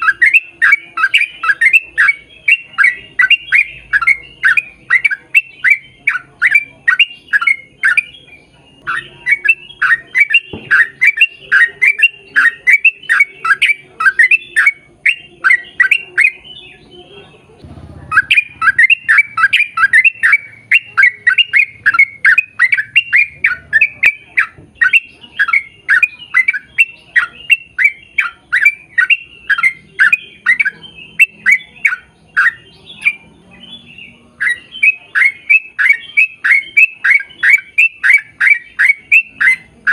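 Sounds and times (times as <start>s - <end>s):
bird calling rapidly: 0.0s - 8.2s, 8.8s - 16.9s, 17.8s - 39.9s.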